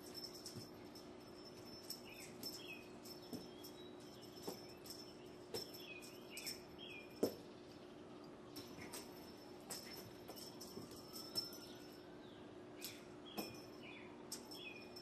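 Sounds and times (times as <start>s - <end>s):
toy and paws clicking and rustling: 0.0s - 12.0s, 12.8s - 15.0s
steady low hum: 0.0s - 15.0s.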